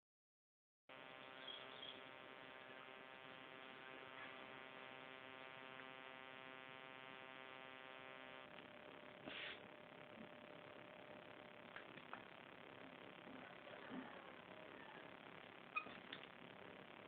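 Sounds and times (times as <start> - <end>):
faint steady hum: 0.9 - 17.0.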